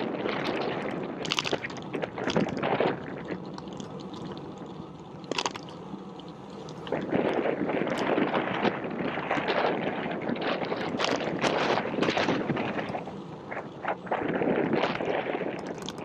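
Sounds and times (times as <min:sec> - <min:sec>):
wind gusting over microphone: 0:00.0 - 0:16.0.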